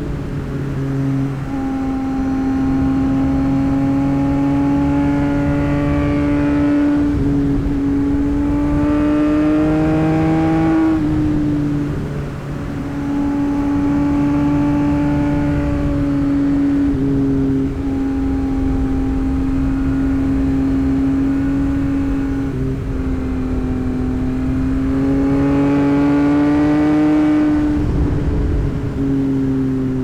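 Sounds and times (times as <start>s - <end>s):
motorcycle engine and exhaust: 0.0s - 30.0s.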